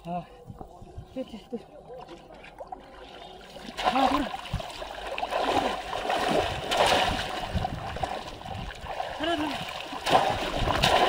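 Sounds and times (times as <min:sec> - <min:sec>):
hands splashing muddy water: 0:02.0 - 0:11.0.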